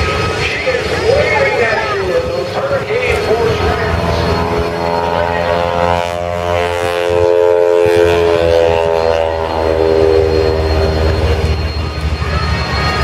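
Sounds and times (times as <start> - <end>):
propeller airplane flying past: 0.0 - 13.0.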